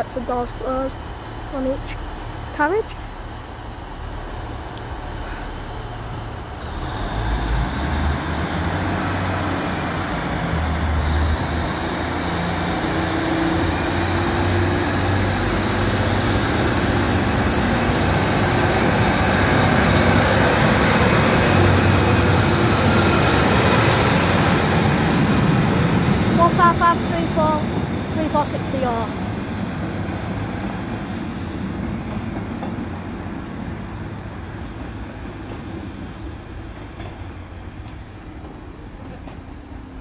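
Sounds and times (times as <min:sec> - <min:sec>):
diesel train engines revving: 0:00.0 - 0:40.0
wheel and rail noise: 0:00.0 - 0:40.0.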